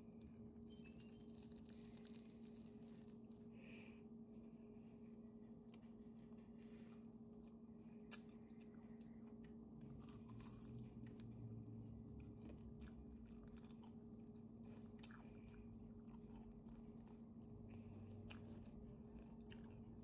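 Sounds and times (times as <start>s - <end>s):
low steady hum: 0.0s - 20.0s
chewing and crunching: 0.7s - 3.5s, 5.7s - 20.0s.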